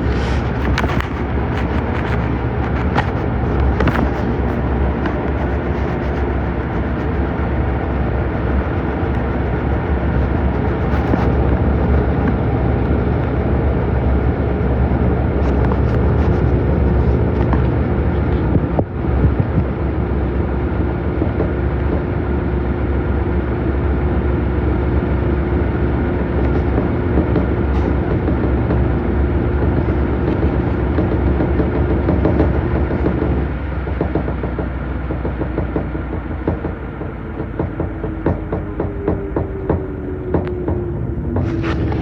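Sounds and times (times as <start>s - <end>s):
constant hum: 0.0s - 42.0s
washing machine rumbling: 0.0s - 42.0s.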